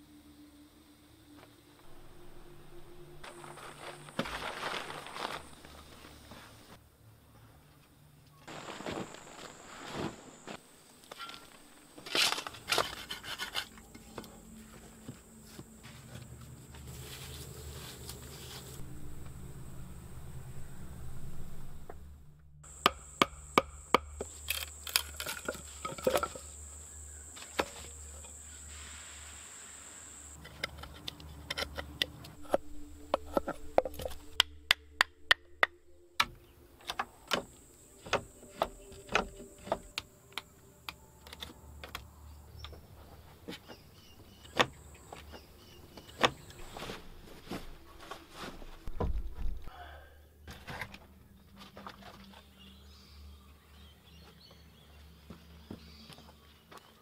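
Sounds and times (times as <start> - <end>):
high insect drone: 0.0 - 6.8, 8.0 - 49.4.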